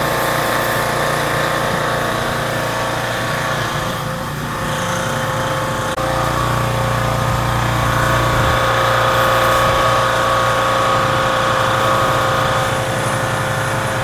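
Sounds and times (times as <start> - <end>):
pressure washer running: 0.0 - 14.0.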